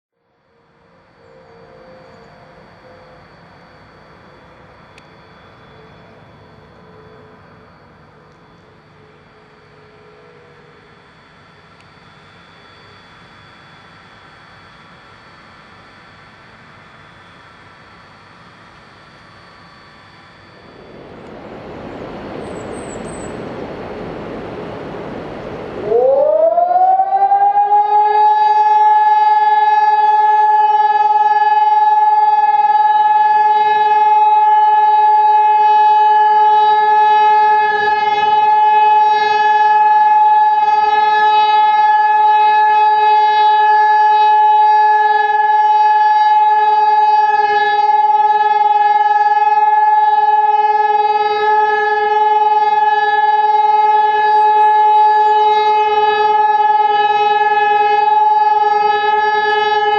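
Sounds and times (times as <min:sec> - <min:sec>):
electronic siren steady tone: 0:00.2 - 0:59.9.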